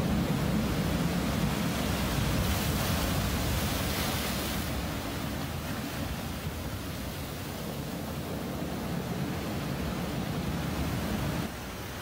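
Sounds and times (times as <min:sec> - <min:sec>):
surf roaring over boulders: 0:00.0 - 0:12.0.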